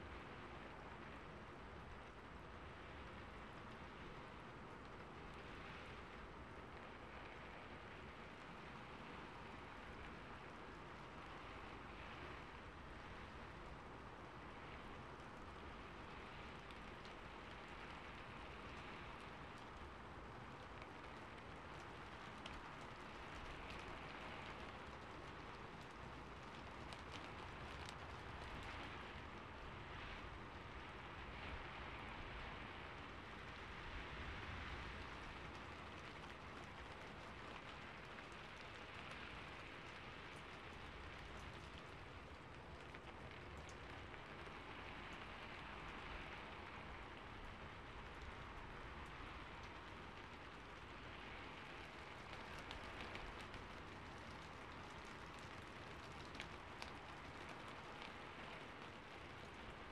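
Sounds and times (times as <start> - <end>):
rain pattering on rooftop: 0.0 - 59.9.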